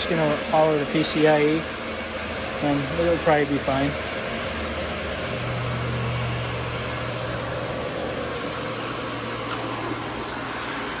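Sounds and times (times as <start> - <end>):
cooling fans whirring: 0.0 - 11.0
low hum: 1.6 - 11.0.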